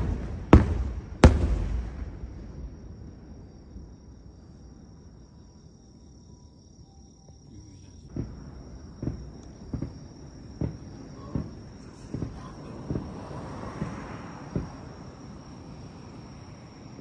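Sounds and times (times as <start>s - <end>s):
distant fireworks booming: 0.0s - 6.3s, 7.3s - 17.0s.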